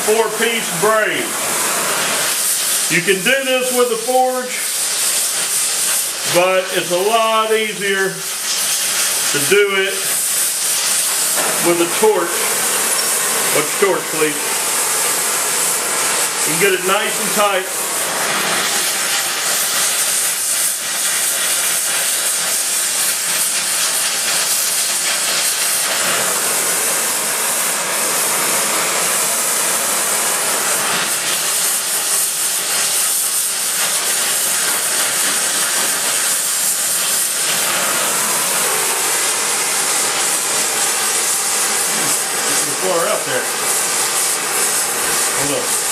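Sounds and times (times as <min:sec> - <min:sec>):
gas torch flame hissing: 0:00.0 - 0:45.9.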